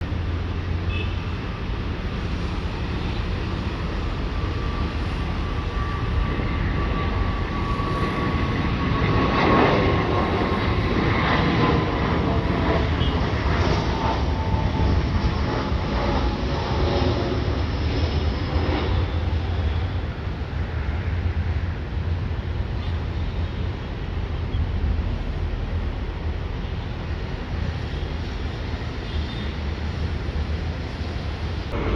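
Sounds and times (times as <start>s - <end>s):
jet engines whining: 0.0s - 31.9s
jet rumble: 0.0s - 31.9s.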